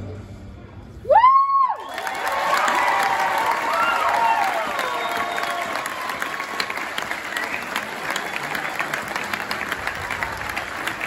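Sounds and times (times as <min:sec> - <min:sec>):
audience cheering and whooping: 0:01.0 - 0:11.0
audience clapping: 0:01.6 - 0:11.0.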